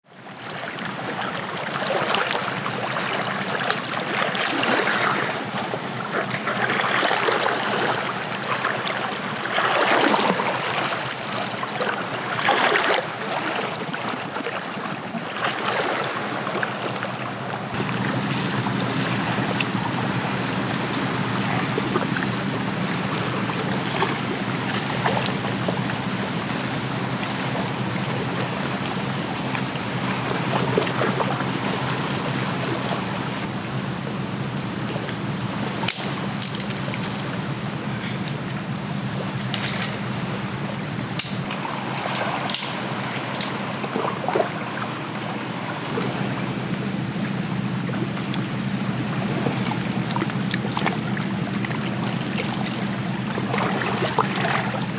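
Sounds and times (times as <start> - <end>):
water rushing and splashing: 0.0 - 54.9.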